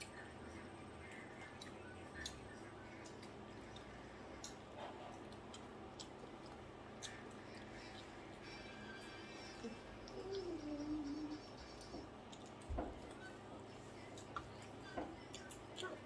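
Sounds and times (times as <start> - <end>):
chewing: 0.0 - 16.0.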